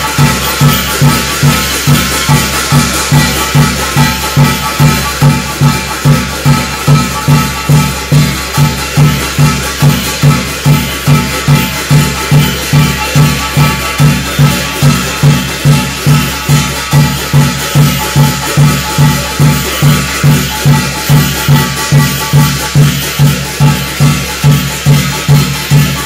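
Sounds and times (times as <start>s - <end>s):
bells jingling: 0.0s - 26.0s
gongs ringing: 0.0s - 26.0s
steady drum beat: 0.0s - 26.0s.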